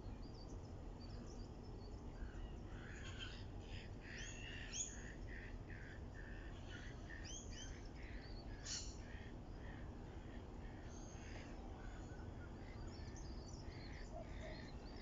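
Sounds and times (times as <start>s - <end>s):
low background hiss: 0.0s - 15.0s
birds chirping: 0.1s - 15.0s.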